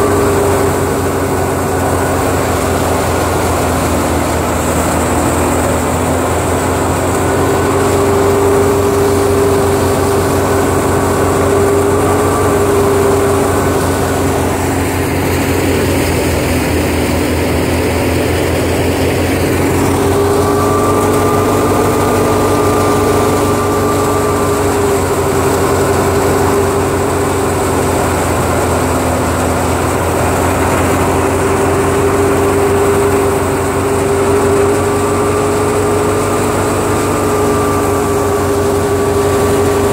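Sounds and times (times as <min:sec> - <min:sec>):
low hum: 0:00.0 - 0:39.9
thresher mechanical drone: 0:00.0 - 0:39.9.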